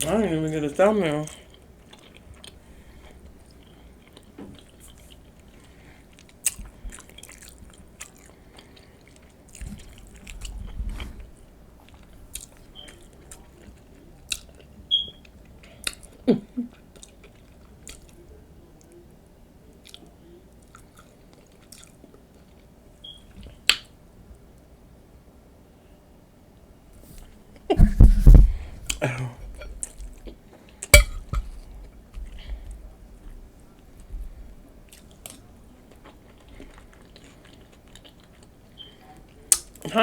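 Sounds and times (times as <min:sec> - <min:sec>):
chewing crunchy nachos: 0:00.0 - 0:24.7, 0:28.6 - 0:40.0.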